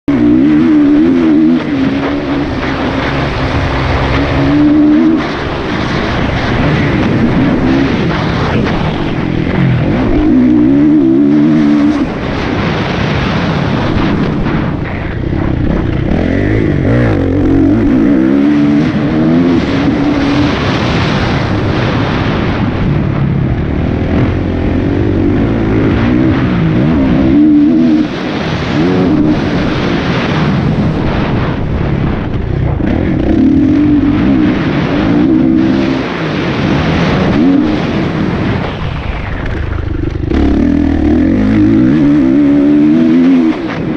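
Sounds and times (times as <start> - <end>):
motocross bike engine revving: 0.0 - 38.7, 39.3 - 43.9.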